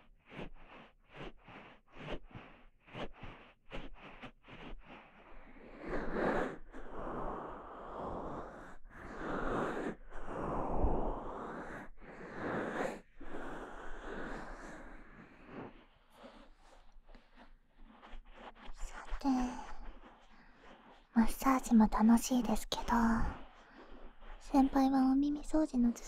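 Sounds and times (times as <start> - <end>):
soft rubbing noise: 0.0 - 26.0.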